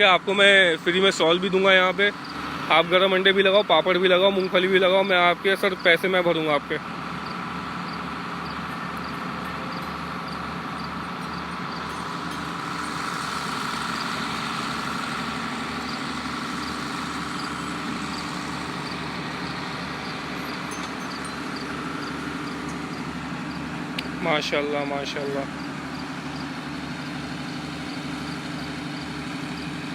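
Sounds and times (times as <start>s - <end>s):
vehicle engine idling: 0.0s - 29.9s.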